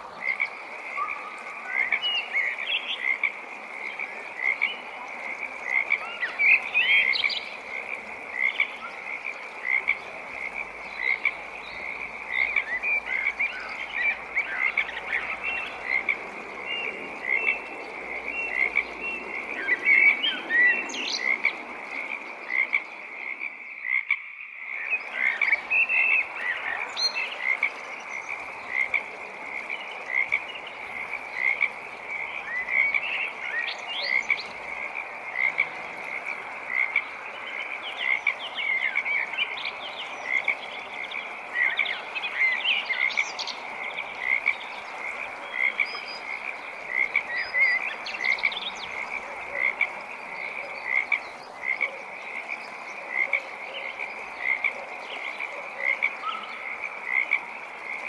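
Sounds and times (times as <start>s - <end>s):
frogs calling: 0.0s - 58.0s.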